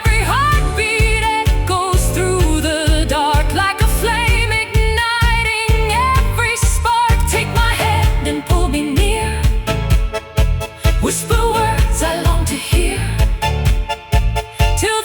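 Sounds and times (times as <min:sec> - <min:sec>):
tango style pop music: 0:00.0 - 0:15.0.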